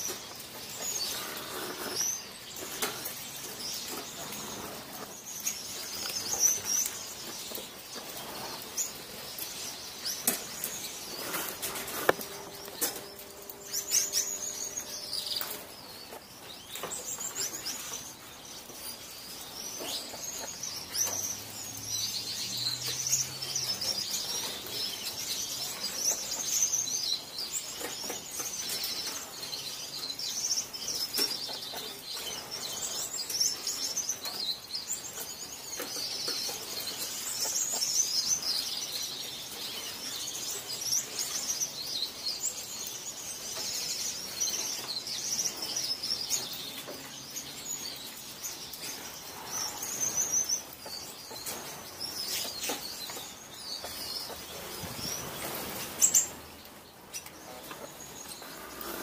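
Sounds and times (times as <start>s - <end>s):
finches chirping: 0.0s - 59.0s.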